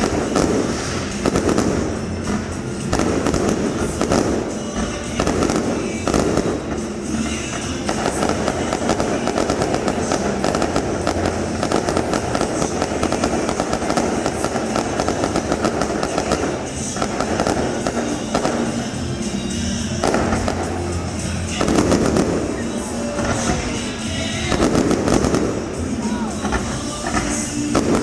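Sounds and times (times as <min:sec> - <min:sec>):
fireworks crackling and popping: 0:00.0 - 0:28.0
music playing: 0:00.0 - 0:28.0.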